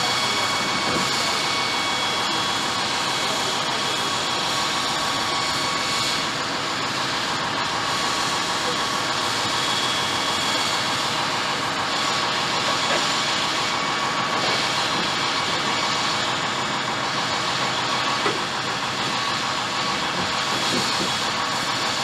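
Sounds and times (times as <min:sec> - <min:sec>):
concrete saw grinding: 0:00.0 - 0:22.0.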